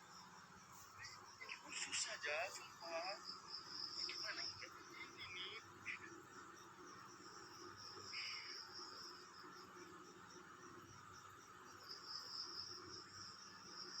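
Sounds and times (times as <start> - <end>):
crickets and insects chirring: 0.0 - 14.0.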